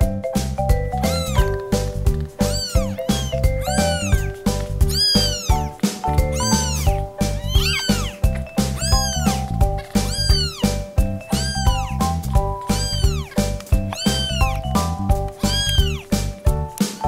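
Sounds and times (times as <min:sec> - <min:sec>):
background music: 0:00.0 - 0:17.0
kitten mewing: 0:01.0 - 0:01.6, 0:02.3 - 0:16.3.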